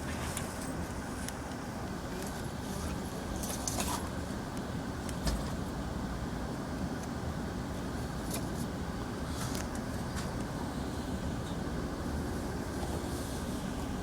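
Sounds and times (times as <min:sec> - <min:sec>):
train car rumbling: 0:00.0 - 0:14.0.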